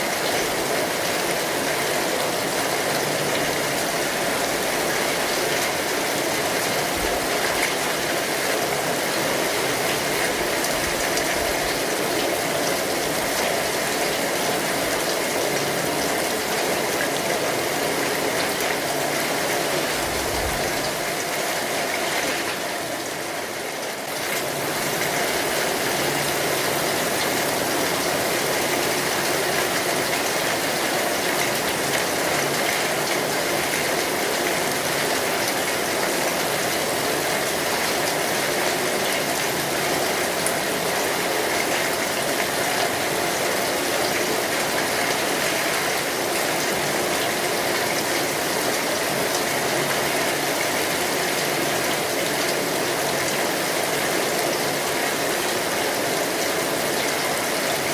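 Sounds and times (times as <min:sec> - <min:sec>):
rain on an umbrella: 0:00.0 - 0:57.9.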